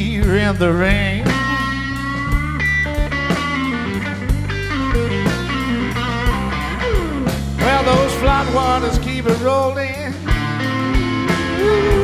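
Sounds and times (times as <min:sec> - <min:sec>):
bass guitar: 0:00.0 - 0:12.0
slow steady drum beat: 0:00.0 - 0:12.0
electric guitar fill: 0:01.3 - 0:12.0.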